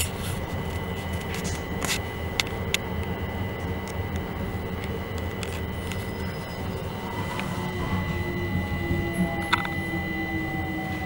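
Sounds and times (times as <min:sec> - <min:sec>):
thin constant whine: 0:00.0 - 0:11.0
train interior rumble: 0:00.0 - 0:11.0.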